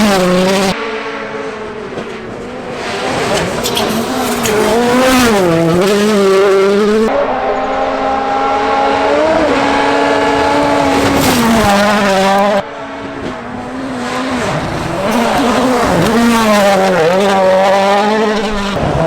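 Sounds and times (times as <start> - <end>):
rally car engine high-revving: 0.0 - 19.0.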